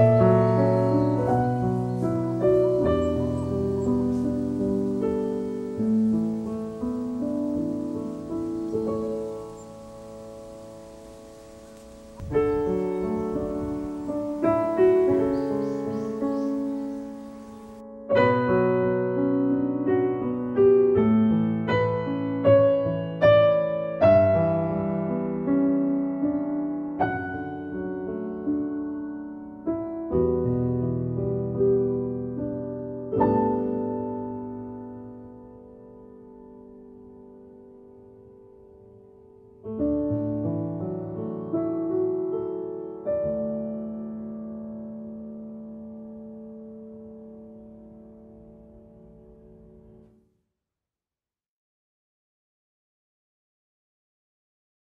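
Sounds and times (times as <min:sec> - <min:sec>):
piano notes and chords: 0:00.0 - 0:50.2.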